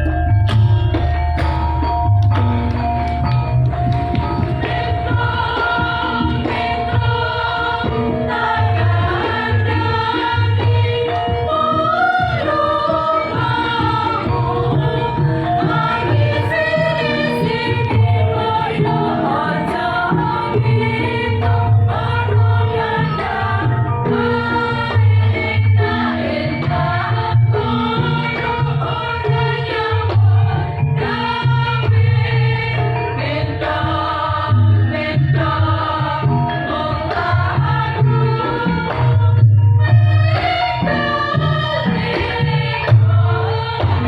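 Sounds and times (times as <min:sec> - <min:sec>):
instrumental accompaniment with low beat: 0:00.0 - 0:44.0
women's choir singing: 0:03.8 - 0:44.0.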